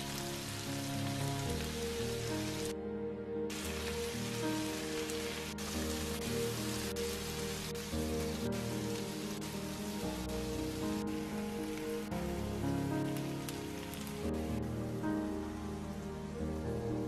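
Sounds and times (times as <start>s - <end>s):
food sizzling in a frying pan: 0.0s - 2.7s, 3.5s - 16.3s
soft background music: 0.0s - 17.0s.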